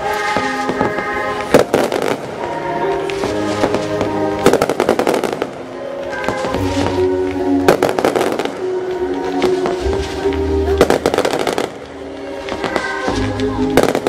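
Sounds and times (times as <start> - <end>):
fireworks bangs: 0.0 - 14.0
show music with held notes: 0.0 - 14.0.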